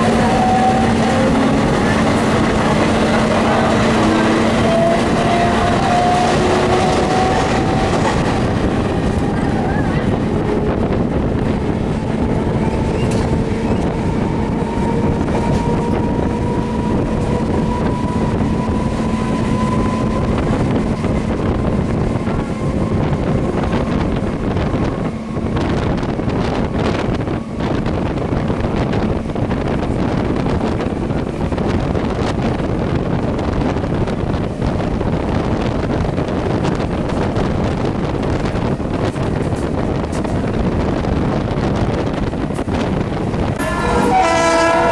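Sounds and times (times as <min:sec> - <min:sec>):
train motor whine: 0:00.0 - 0:30.5, 0:38.0 - 0:44.9
train running rumble: 0:00.0 - 0:44.9
wind buffeting microphone: 0:00.0 - 0:44.9.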